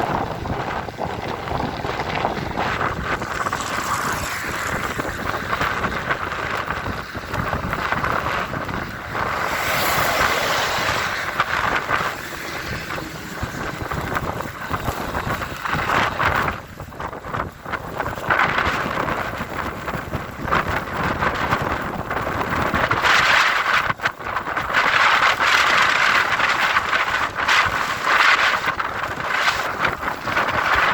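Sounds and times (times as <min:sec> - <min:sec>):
strong wind buffeting microphone: 0:00.0 - 0:30.9.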